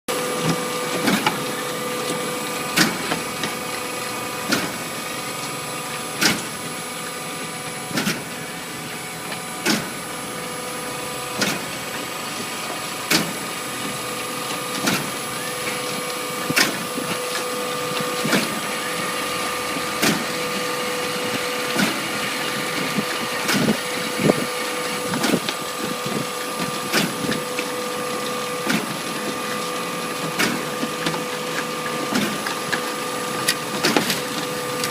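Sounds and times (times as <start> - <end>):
machine electric hum: 0.1 - 34.9.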